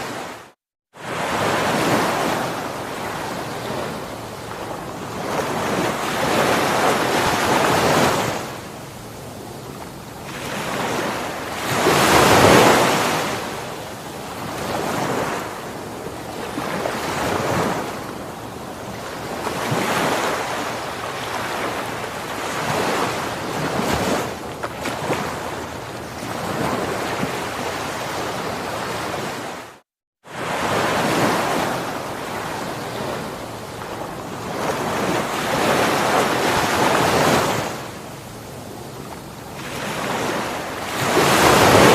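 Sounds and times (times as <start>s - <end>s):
ocean waves washing onto shore: 0.0s - 41.9s.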